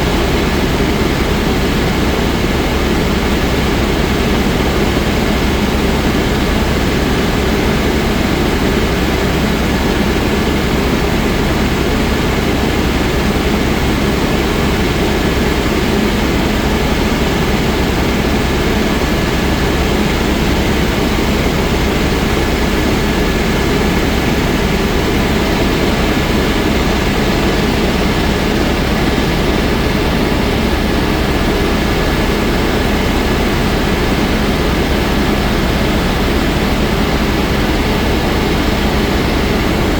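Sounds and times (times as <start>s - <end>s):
helicopter engine and rotor drone: 0.0s - 39.9s
thin steady whine: 0.0s - 39.9s.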